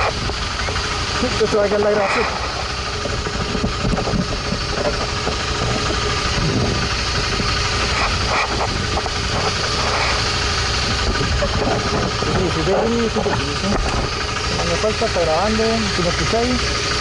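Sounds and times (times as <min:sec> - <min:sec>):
motorcycle engine running: 0:00.0 - 0:17.0
rush of noise: 0:00.0 - 0:17.0.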